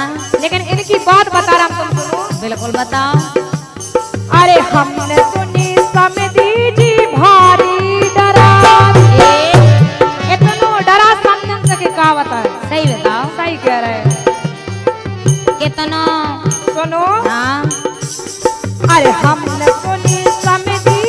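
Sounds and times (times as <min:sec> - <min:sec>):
drum beat and percussion: 0:00.0 - 0:21.0.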